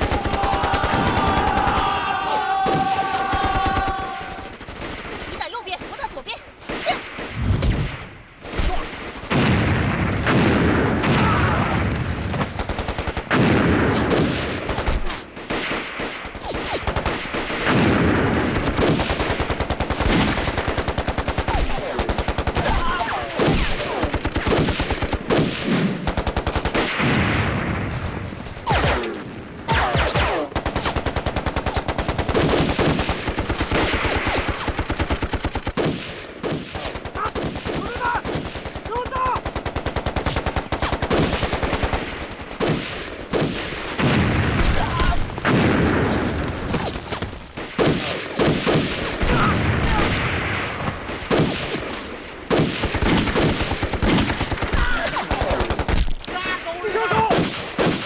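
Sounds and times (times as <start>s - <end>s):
machine-gun fire: 0.0s - 58.0s
rifle shots: 0.0s - 58.0s.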